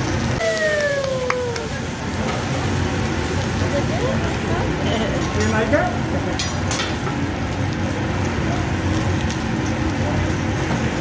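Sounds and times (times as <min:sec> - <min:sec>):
seafood sizzling on a griddle: 0:00.0 - 0:11.0.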